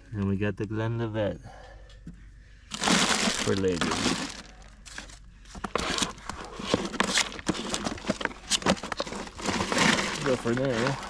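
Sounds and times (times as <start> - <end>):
clicks and crinkling of handling: 1.8 - 11.0.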